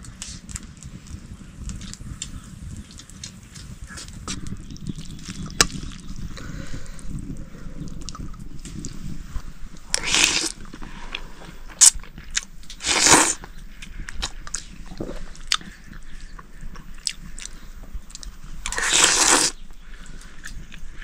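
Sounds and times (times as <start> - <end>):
crunching and chewing food: 0.0 - 7.1, 9.7 - 21.0
small crackles: 0.0 - 21.0.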